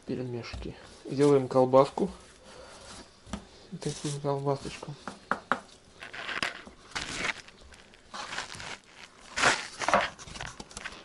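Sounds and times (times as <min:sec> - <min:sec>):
hands rustling dough on cloth: 0:00.4 - 0:05.0, 0:06.0 - 0:11.0.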